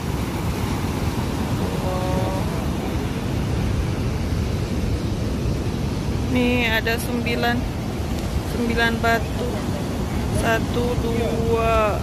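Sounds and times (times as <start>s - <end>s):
ocean surf breaking on rocks: 0.0s - 12.0s.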